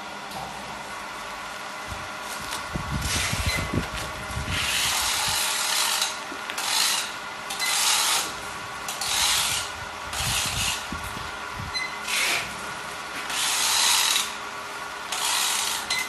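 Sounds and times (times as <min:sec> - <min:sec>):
faint machine hum: 0:00.0 - 0:16.0.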